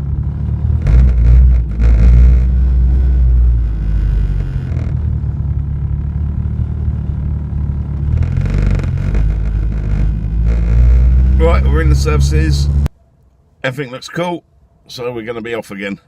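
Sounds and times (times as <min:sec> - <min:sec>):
car engine droning: 0:00.0 - 0:13.6.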